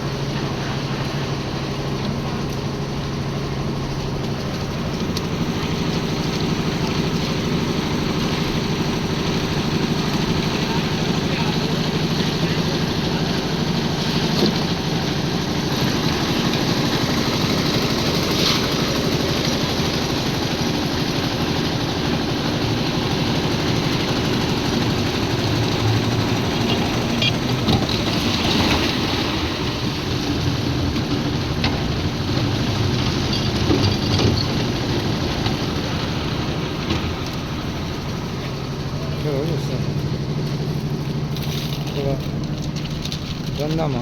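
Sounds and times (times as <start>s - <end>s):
concrete mixer engine running: 0.0s - 44.0s.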